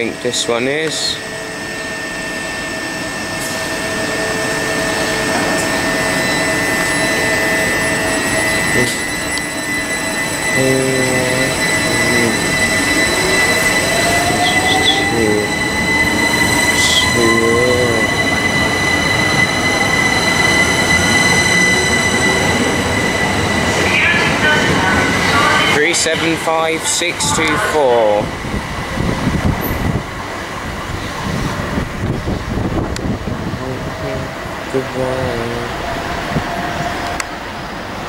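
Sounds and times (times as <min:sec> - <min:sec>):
electric train motors and wheels: 0:00.0 - 0:38.0
high whine: 0:00.0 - 0:38.0.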